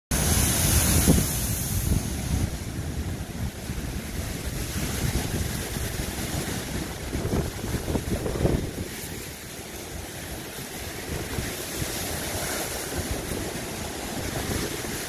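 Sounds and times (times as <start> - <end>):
waves crashing against sea wall: 0.1 - 15.0
wind buffeting microphone: 0.1 - 15.0.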